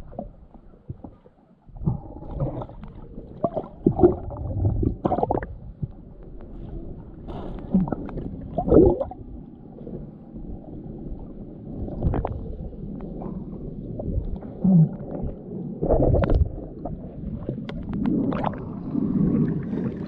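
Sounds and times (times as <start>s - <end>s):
muffled underwater sloshing: 0.0s - 20.0s.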